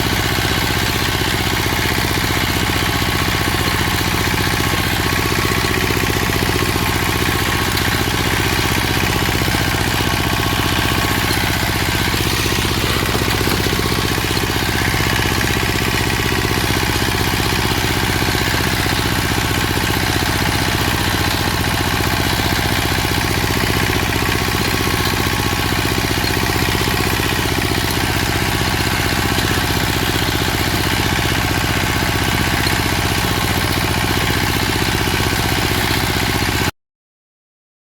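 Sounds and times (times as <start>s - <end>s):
motor running steadily: 0.0s - 36.7s.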